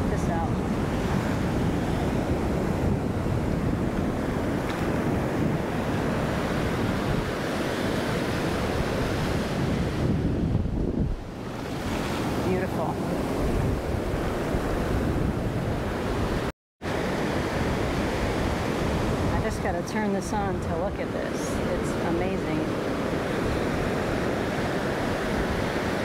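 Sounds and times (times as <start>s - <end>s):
ocean surf washing up: 0.0s - 26.0s
wind buffeting microphone: 0.0s - 26.0s.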